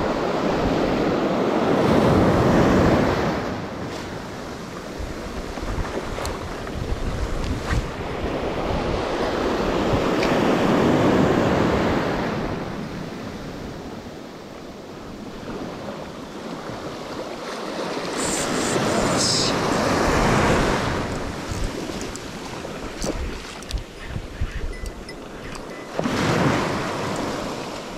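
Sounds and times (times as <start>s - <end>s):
wind buffeting microphone: 0.0s - 14.2s, 18.9s - 27.9s
sea surf breaking on beach: 0.0s - 27.9s.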